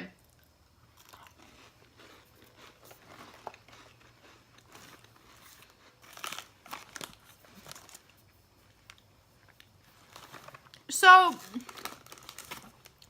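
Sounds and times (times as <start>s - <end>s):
person chewing crunchy biscuit: 0.2s - 13.0s.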